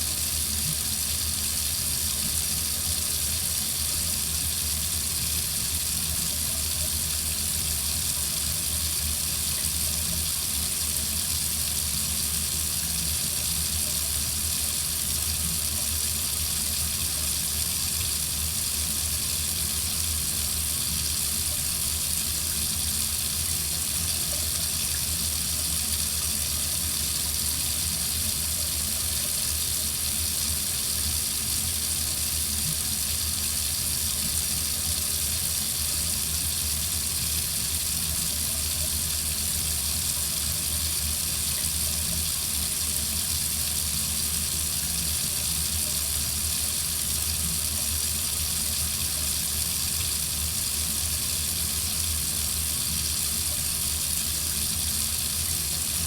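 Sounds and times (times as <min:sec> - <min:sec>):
faucet running into sink: 0:00.0 - 0:56.0.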